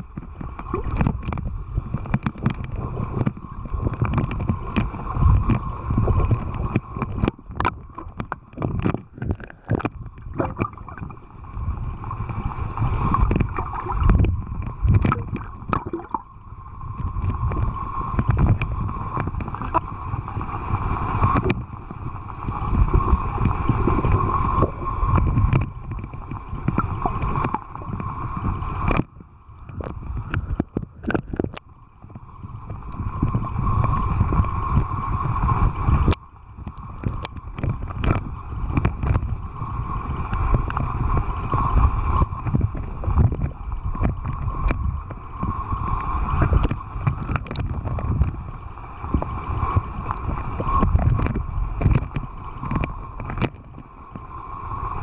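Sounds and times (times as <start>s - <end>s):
muffled underwater water rumble: 0.0s - 55.0s.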